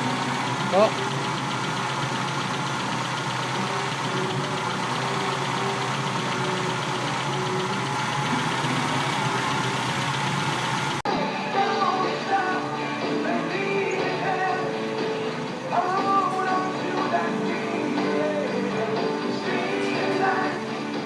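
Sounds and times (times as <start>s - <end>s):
car engine idling: 0.0s - 11.1s, 11.8s - 21.0s.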